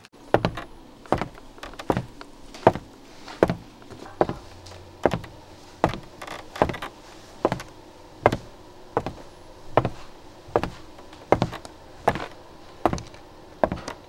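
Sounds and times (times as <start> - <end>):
footsteps on a hard floor: 0.4 - 14.0.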